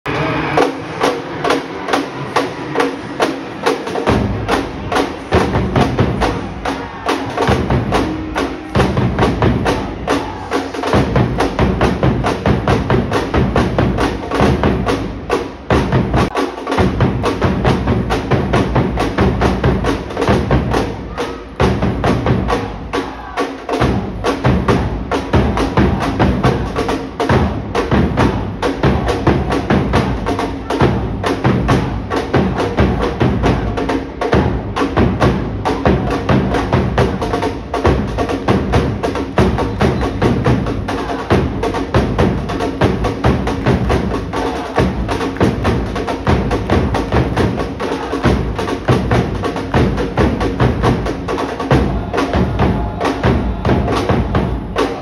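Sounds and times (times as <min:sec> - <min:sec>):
drumline playing fast beat: 0:00.1 - 0:55.0
marching bass drums thumping: 0:04.0 - 0:23.0, 0:23.7 - 0:55.0.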